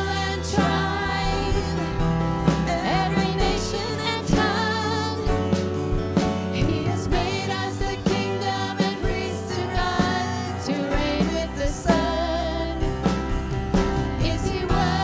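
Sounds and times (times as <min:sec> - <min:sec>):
person singing with vibrato: 0:00.0 - 0:05.7, 0:06.6 - 0:13.2, 0:14.2 - 0:15.0
band with bass and drums: 0:00.0 - 0:15.0.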